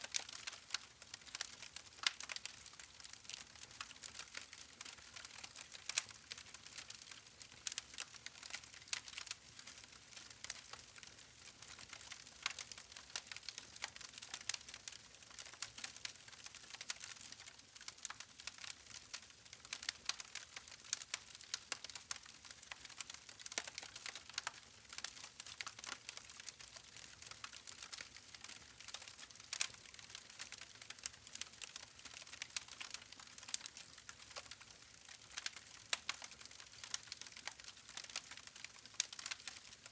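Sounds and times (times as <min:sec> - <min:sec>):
campfire crackling and popping: 0:00.1 - 0:38.3, 0:38.9 - 0:39.9.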